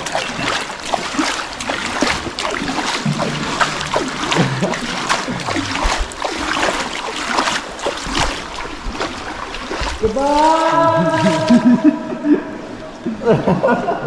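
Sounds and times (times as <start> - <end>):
water splashing from paddling: 0.0 - 13.7.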